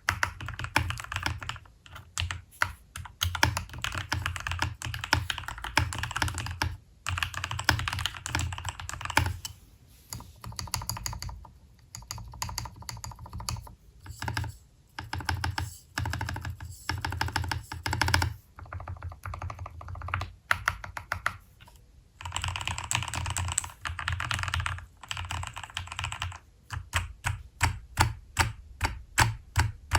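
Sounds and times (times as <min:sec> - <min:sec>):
mechanical keyboard typing: 0:00.0 - 0:09.5, 0:10.1 - 0:21.4, 0:22.2 - 0:29.9.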